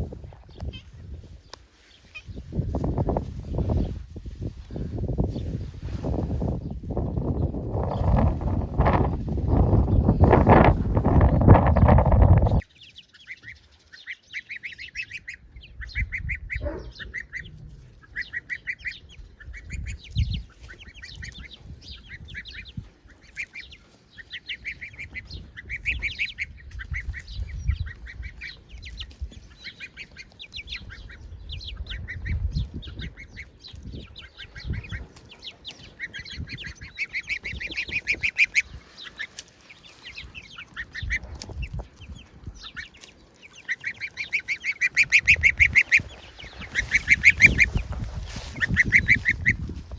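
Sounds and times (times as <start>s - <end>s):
gosling peeping: 0.0s - 49.9s.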